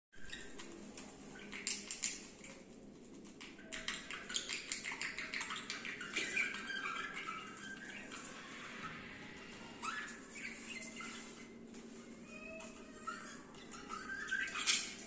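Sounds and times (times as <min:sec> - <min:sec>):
birds chirping and squawking: 0:00.2 - 0:15.0.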